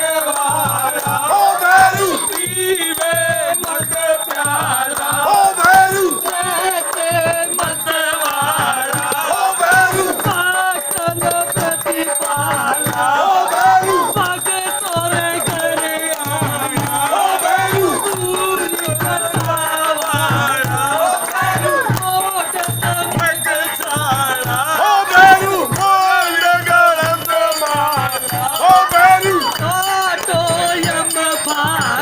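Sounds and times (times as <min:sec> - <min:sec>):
rattling percussion: 0:00.0 - 0:32.0
steady drum beat: 0:00.0 - 0:32.0
voices singing: 0:00.0 - 0:32.0.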